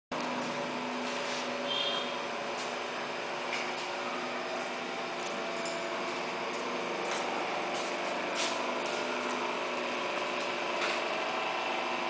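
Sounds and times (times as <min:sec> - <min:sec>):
riveting machine humming: 0:00.2 - 0:12.0.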